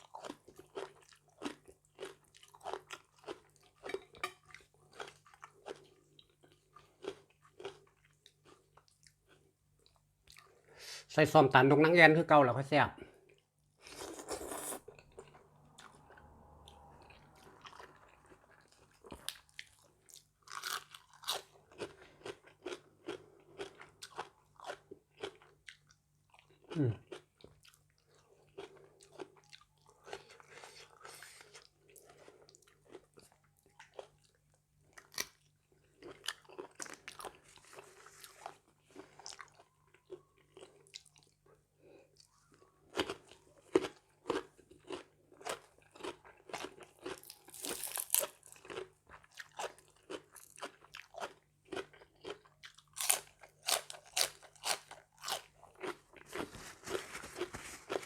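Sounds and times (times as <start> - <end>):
person chewing crunchy food: 0.0 - 10.6, 13.2 - 58.0.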